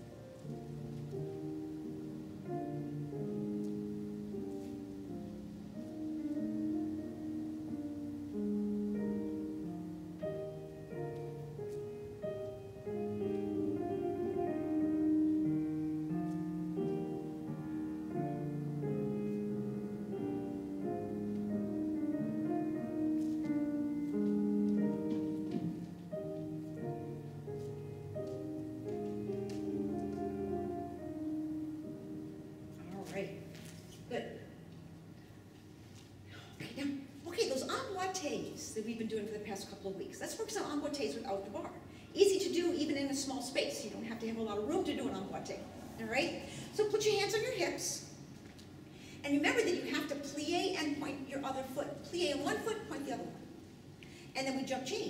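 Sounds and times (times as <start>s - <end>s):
slow classical piano music: 0.0s - 55.0s.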